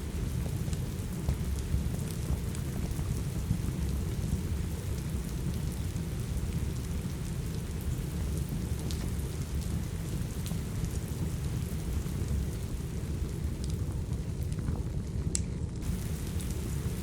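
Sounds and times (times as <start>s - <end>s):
fire crackles and ticks: 0.0s - 17.0s
steady rain: 0.0s - 17.0s.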